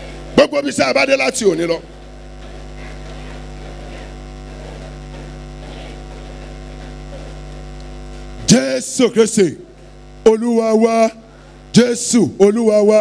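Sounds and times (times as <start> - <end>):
electrical mains hum: 0.0 - 13.0
murmur of voices praying: 0.0 - 13.0.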